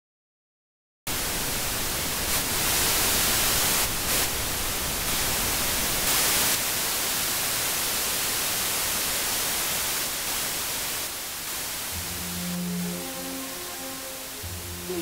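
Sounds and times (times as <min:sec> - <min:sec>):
static hiss: 0:01.1 - 0:15.0.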